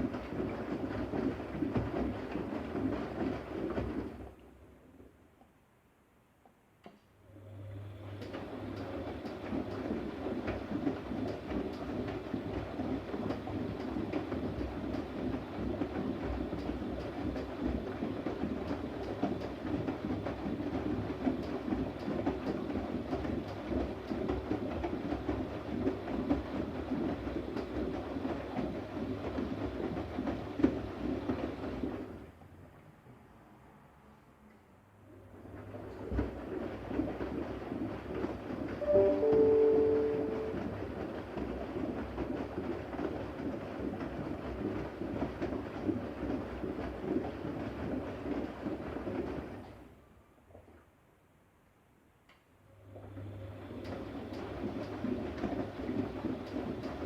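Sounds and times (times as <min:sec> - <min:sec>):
washing machine drum churning: 0:00.0 - 0:04.4, 0:08.0 - 0:32.4, 0:35.1 - 0:49.9, 0:52.9 - 0:57.0.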